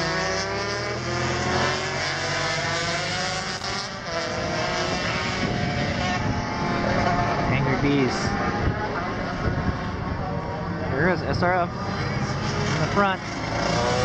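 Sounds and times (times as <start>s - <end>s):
racing motorcycles passing: 0.0s - 14.0s.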